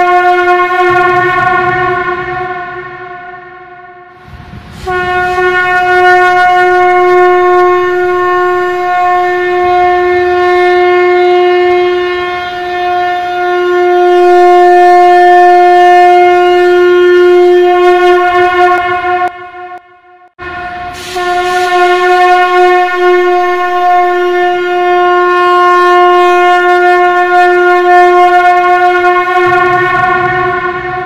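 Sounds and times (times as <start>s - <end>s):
conch shell blast: 0.0s - 31.0s.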